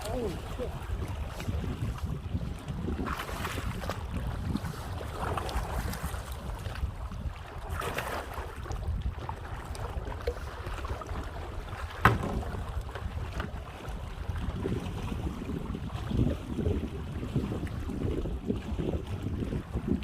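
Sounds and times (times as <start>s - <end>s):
paddle strokes splashing water: 0.0s - 20.0s
wind rumbling on microphone: 0.0s - 20.0s.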